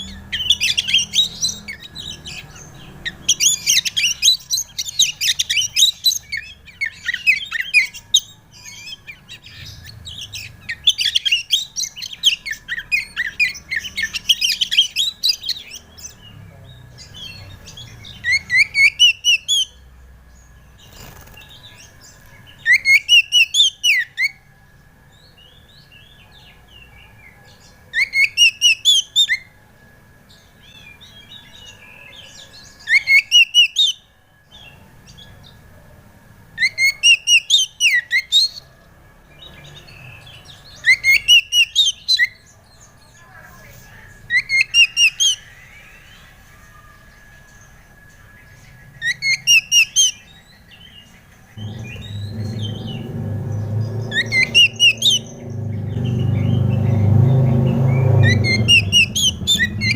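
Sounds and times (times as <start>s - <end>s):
magpie-robin singing: 0.0s - 24.5s, 25.2s - 29.6s, 30.3s - 35.6s, 36.6s - 38.7s, 39.3s - 59.9s.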